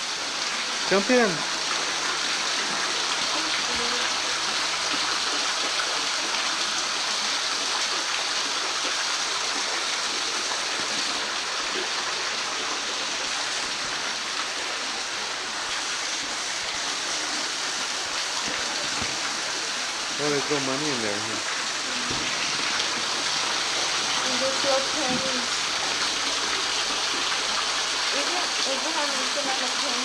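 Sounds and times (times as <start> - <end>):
water trickling and dripping: 0.0 - 30.0.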